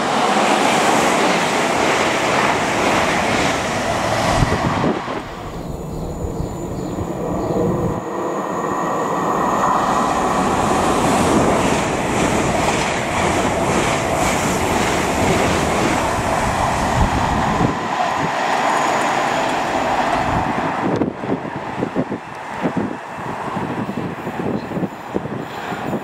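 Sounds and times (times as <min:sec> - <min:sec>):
high-speed train passing: 0:00.0 - 0:26.0.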